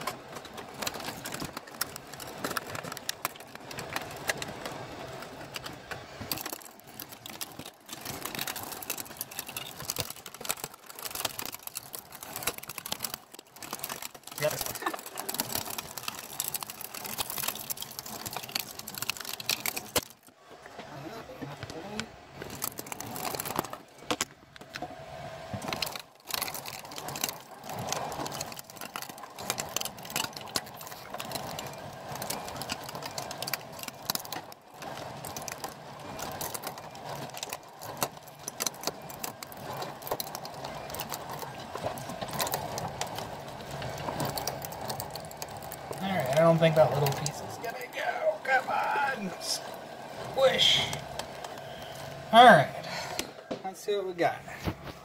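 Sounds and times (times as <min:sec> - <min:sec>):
grinder crunching plastic: 0:00.0 - 0:55.0.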